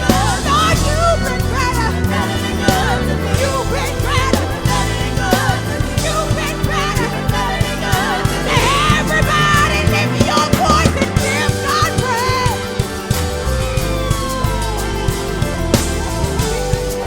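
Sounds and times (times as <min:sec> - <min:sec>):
drum kit beat: 0:00.0 - 0:17.0
live band playing: 0:00.0 - 0:17.0
person singing: 0:00.0 - 0:17.0.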